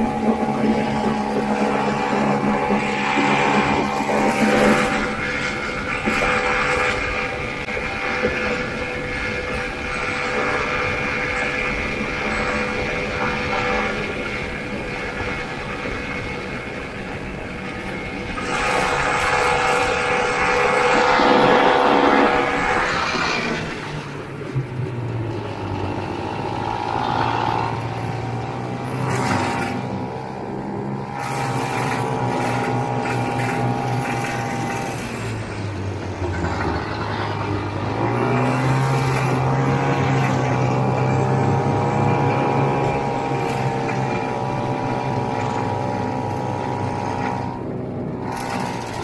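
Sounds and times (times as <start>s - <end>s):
snowmobile engine running: 0.0s - 49.0s.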